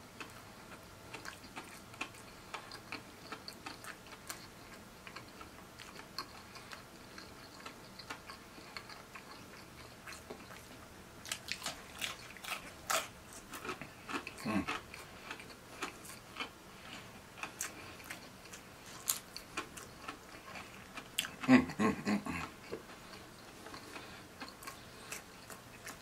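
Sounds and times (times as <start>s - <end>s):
crunching fried chicken: 0.2s - 26.0s
mouth chewing: 0.2s - 26.0s.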